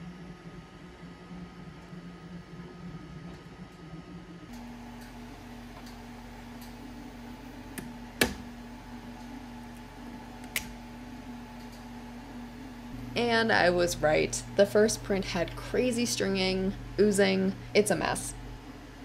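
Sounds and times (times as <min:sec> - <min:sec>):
machine hum: 0:00.0 - 0:19.0
printer humming: 0:00.0 - 0:19.0.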